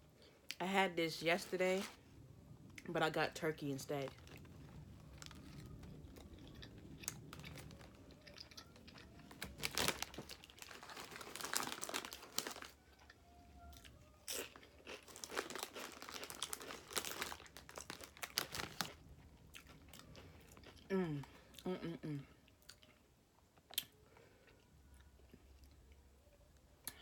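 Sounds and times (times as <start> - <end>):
chewing a sandwich: 4.1 - 27.0.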